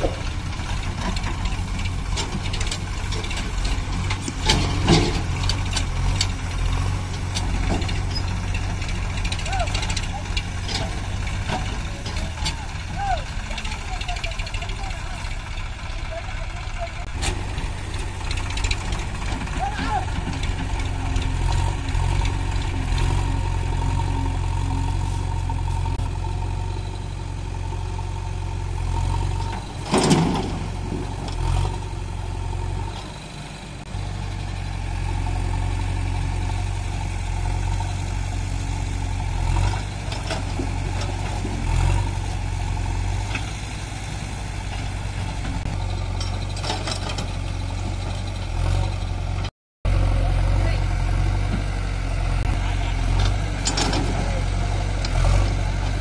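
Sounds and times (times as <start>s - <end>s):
backhoe loader working its arm: 0.0s - 56.0s
tractor diesel engine running: 0.0s - 56.0s.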